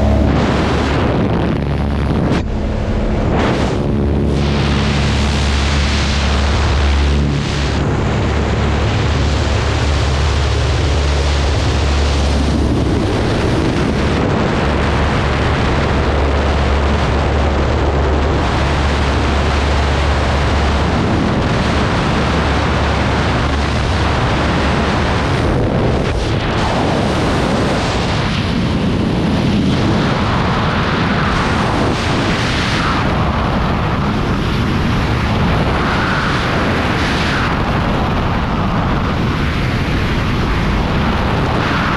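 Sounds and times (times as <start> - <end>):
propeller engine droning: 0.0 - 41.9
wind rushing: 0.0 - 41.9.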